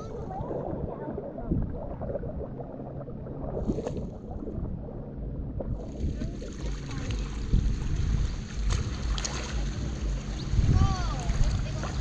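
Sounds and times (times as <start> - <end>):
water splash: 0.0 - 4.8, 5.6 - 12.0
water sloshing and gurgling: 0.0 - 12.0.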